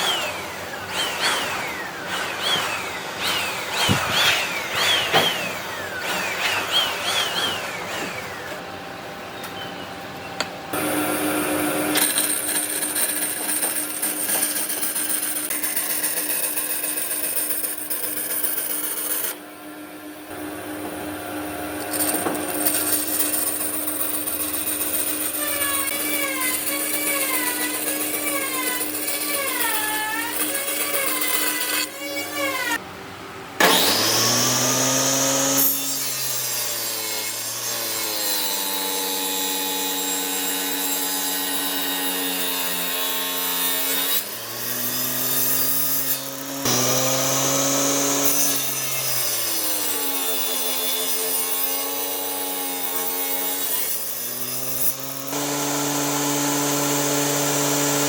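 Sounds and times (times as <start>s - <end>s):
power tool motor hum: 0.0s - 8.8s, 10.3s - 19.4s, 20.3s - 32.8s, 33.6s - 58.0s
sawing and scraping wood: 0.0s - 8.8s, 10.7s - 19.4s, 20.3s - 32.8s, 33.6s - 58.0s.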